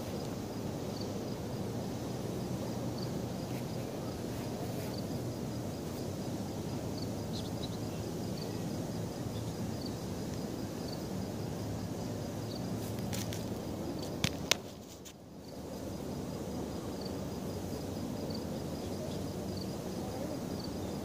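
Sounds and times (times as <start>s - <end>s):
faint high insect chirp: 0.0s - 21.0s.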